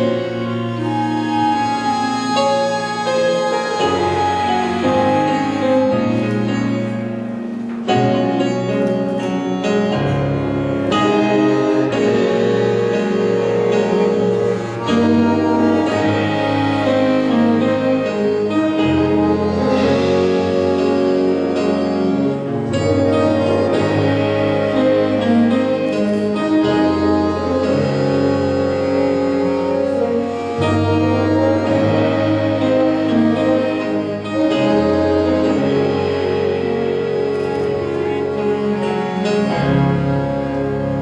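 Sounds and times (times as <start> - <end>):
jazz big band playing: 0.0 - 41.0.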